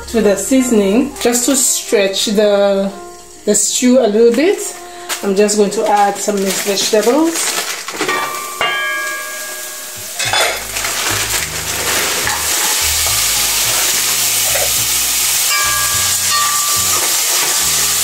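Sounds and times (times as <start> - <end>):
vegetables sizzling in hot oil: 3.2 - 18.0.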